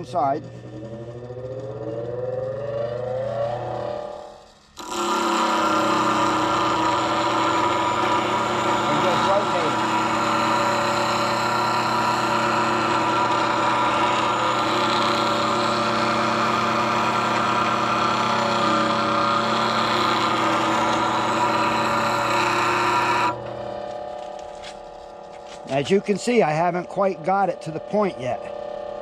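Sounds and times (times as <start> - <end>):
grinder motor hum: 0.0 - 29.0.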